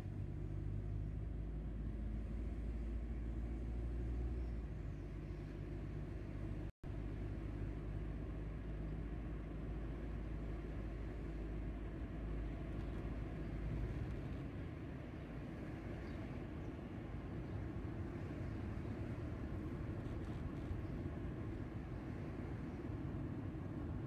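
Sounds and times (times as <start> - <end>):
car interior driving rumble: 0.0 - 24.0.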